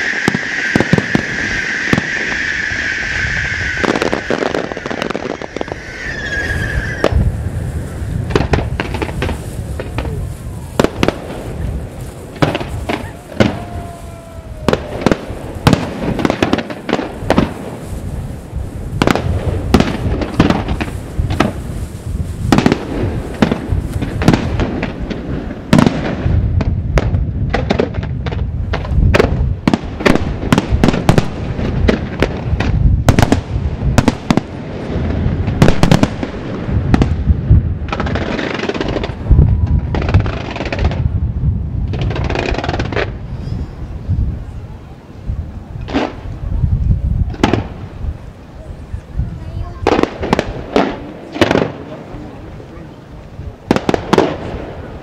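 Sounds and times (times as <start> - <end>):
fireworks bursting and banging: 0.0 - 55.0
fireworks crackling: 0.0 - 55.0.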